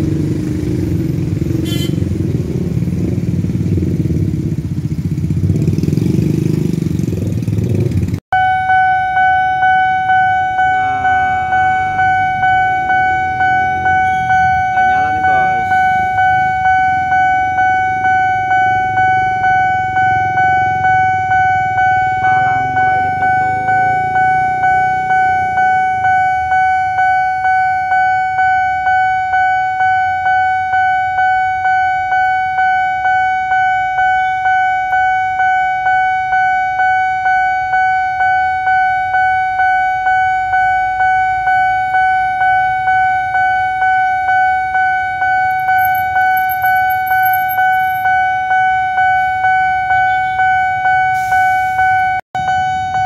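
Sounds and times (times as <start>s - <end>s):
road traffic: 0.0s - 53.0s
level crossing bell dinging: 8.4s - 51.1s.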